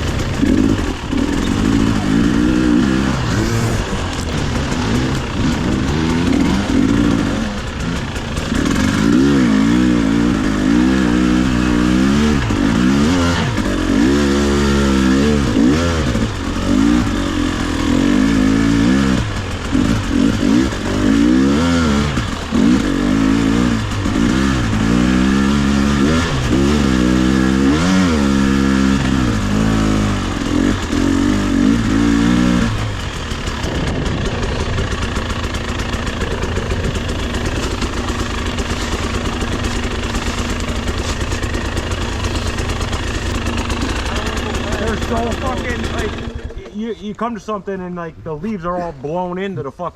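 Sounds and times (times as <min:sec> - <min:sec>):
motorbike engine revving: 0:00.0 - 0:47.5.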